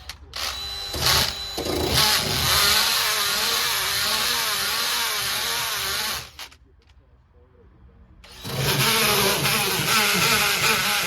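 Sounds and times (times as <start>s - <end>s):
power drill stripping rust from metal: 0.4s - 6.6s, 8.3s - 11.0s.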